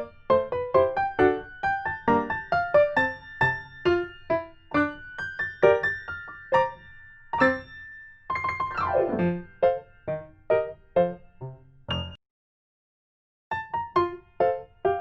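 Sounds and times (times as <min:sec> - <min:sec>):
electric piano melody: 0:00.0 - 0:12.2, 0:13.5 - 0:15.0.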